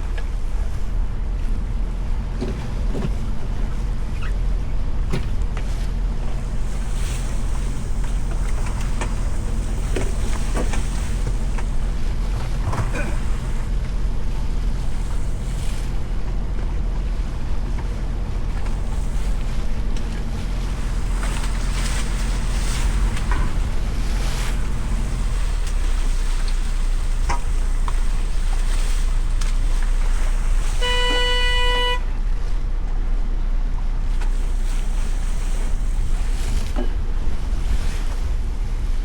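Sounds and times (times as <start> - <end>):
water noise: 0.0 - 33.2
boat engine running: 0.0 - 39.0
wind: 0.0 - 39.0.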